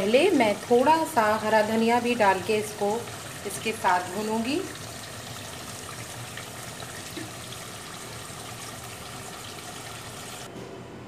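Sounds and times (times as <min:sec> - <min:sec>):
curry sizzling in pot: 0:00.0 - 0:10.5.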